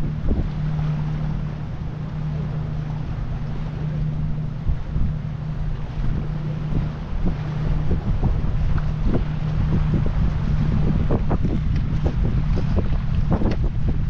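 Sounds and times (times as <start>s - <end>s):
low engine hum: 0.0s - 14.0s
wind buffeting microphone: 0.0s - 14.0s.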